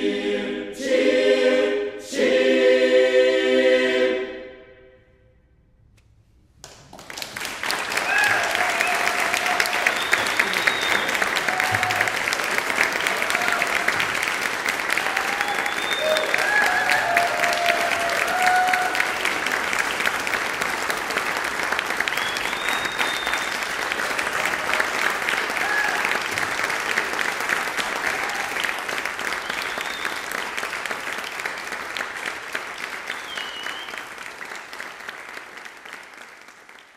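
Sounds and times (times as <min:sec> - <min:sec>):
audience applause: 0:06.6 - 0:36.9.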